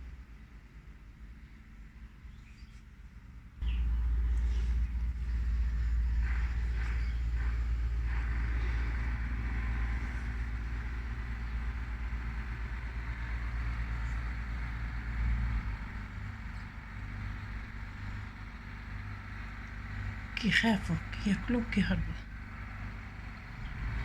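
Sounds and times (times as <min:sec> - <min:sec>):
steady low rumble: 0:03.6 - 0:24.0.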